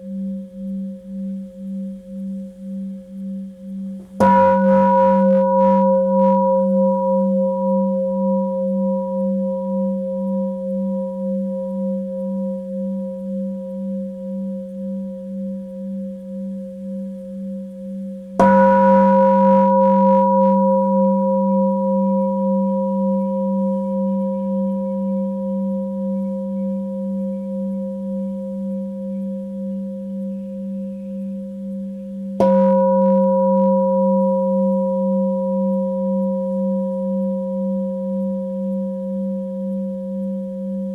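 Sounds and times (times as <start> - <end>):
singing bowl ringing: 0.0 - 40.9.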